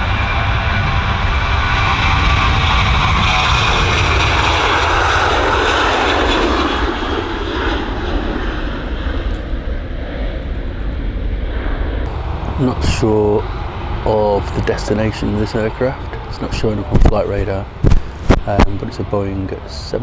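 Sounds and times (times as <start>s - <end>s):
jet engines at take-off: 0.0s - 20.0s.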